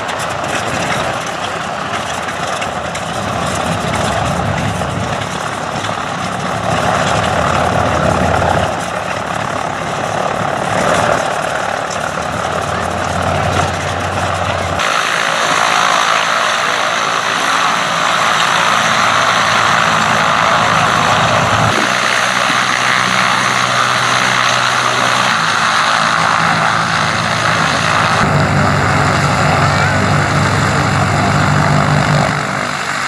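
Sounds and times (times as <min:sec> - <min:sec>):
radial engine and propeller running: 0:00.0 - 0:33.0.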